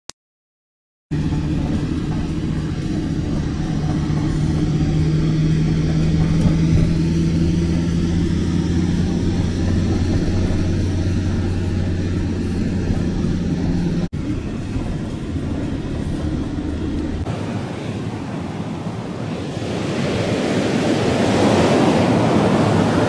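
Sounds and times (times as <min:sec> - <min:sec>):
car engine and road noise: 0:01.1 - 0:23.0.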